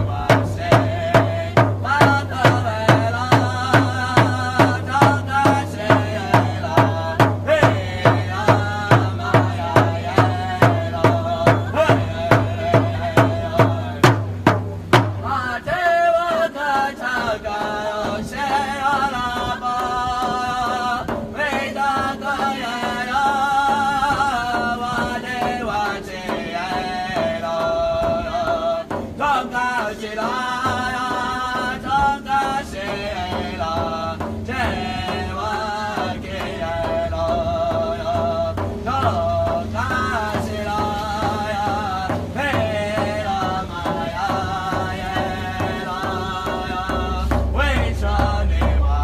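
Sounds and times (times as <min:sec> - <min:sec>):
quick drumbeat: 0:00.0 - 0:49.0.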